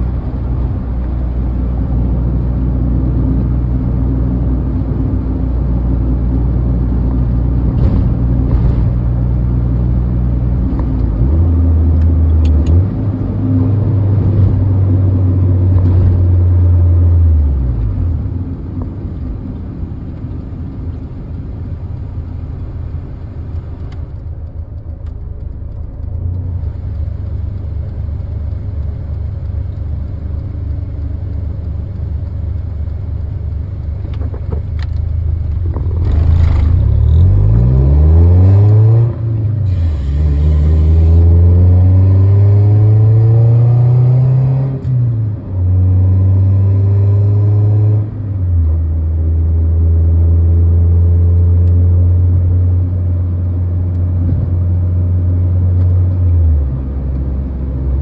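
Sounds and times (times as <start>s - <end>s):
car engine from inside cabin: 0.0s - 58.0s.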